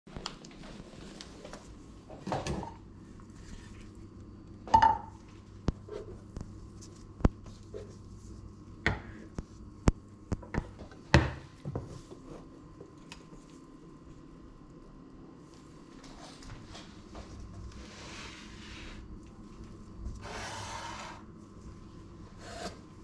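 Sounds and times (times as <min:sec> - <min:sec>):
faint steady hum: 0:00.1 - 0:23.0.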